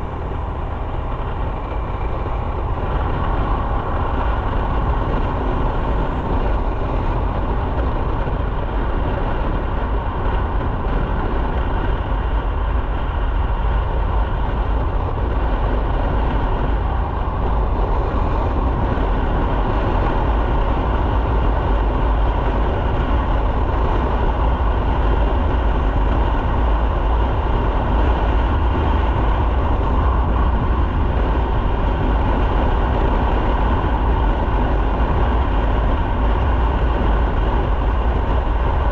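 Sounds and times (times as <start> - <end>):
motorcycle engine and road noise: 0.0 - 38.9
wind rush on microphone: 0.0 - 38.9.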